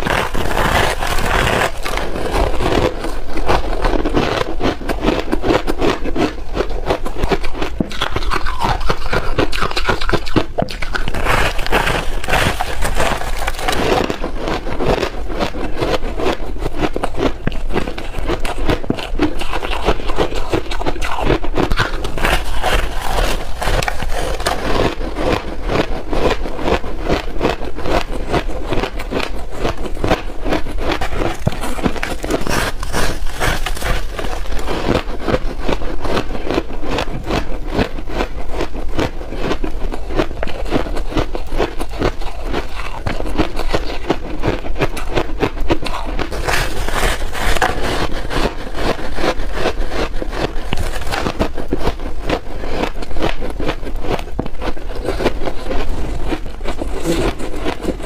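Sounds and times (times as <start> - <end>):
chewing crunchy ice: 0.0 - 58.0.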